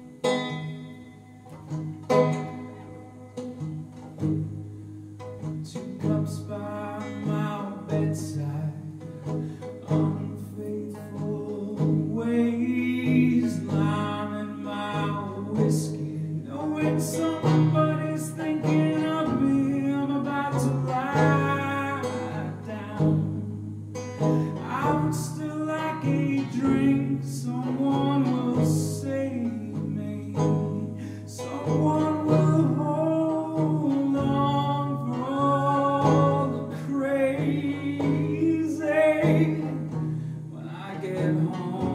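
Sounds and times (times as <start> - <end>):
banjo picking: 0.0 - 41.9
man singing: 5.5 - 41.9.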